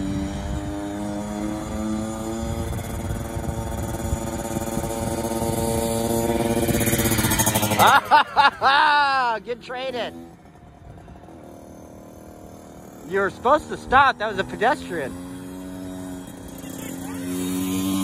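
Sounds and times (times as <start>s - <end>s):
dirt bike engine passing by: 0.0s - 18.0s.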